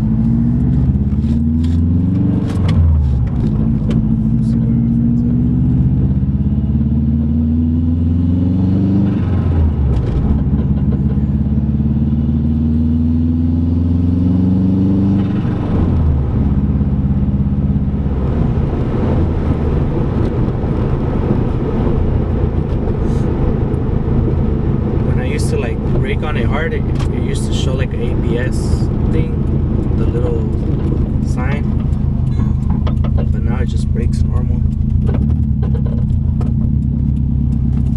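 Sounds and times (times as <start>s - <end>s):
car engine accelerating through gears: 0.0s - 37.9s
road noise: 0.0s - 37.9s.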